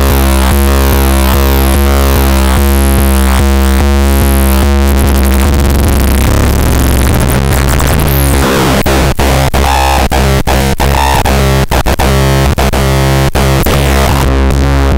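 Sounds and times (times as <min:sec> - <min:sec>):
distorted synthesizer drone: 0:00.0 - 0:14.9.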